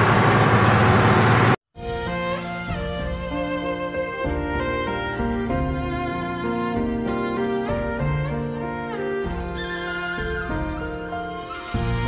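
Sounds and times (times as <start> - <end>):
music with held melody notes: 1.8 - 12.0.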